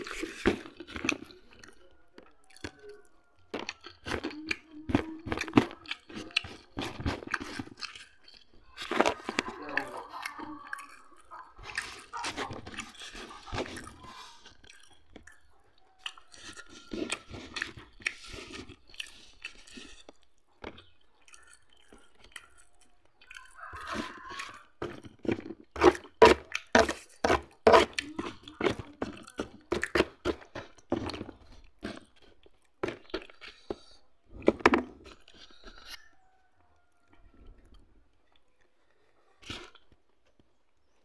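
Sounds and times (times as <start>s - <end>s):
chewing and crunching food: 0.0s - 41.0s.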